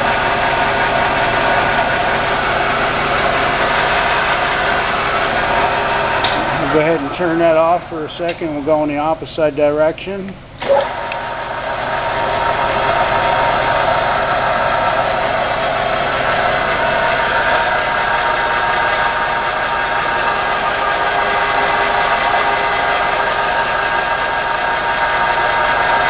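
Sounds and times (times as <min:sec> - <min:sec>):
lathe gear whine: 0:00.0 - 0:09.3, 0:10.6 - 0:26.0
lathe mechanical hum: 0:00.0 - 0:26.0.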